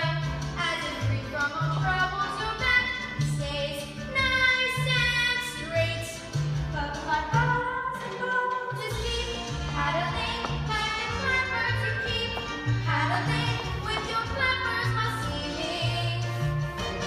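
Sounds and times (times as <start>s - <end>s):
woman singing: 0.0s - 16.6s.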